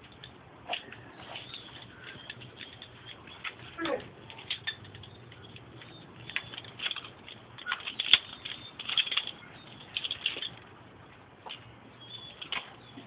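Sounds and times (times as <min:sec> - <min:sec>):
dogs sniffing and scuffling: 0:00.0 - 0:13.0.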